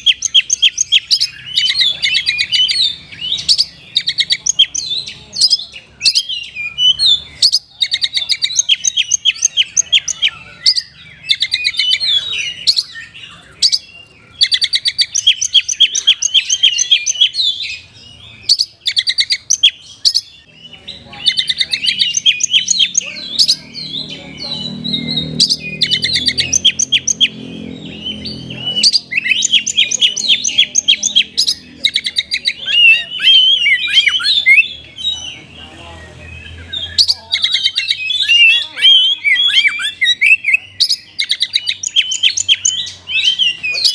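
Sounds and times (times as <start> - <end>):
bird singing warbled song: 0.0 - 43.9.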